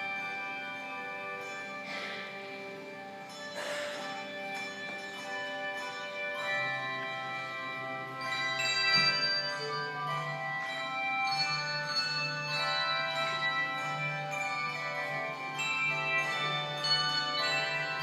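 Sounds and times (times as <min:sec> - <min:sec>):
handbell choir playing: 0:00.0 - 0:18.0.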